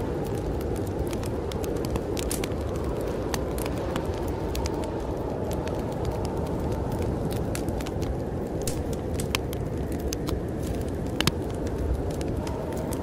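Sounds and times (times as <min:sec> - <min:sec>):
fire popping and snapping: 0:00.0 - 0:13.0
storm wind rushing: 0:00.0 - 0:13.0
wood fire crackling: 0:00.0 - 0:13.0.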